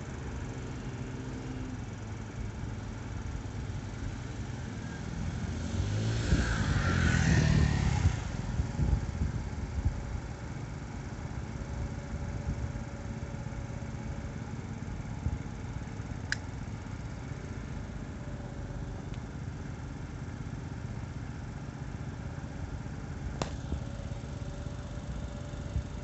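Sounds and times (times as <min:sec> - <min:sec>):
scooter engines idling: 0:00.0 - 0:05.7, 0:08.0 - 0:26.0.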